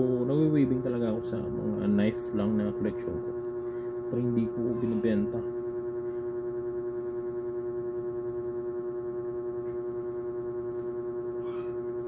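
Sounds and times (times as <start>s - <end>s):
steady droning hum: 0.0s - 12.0s.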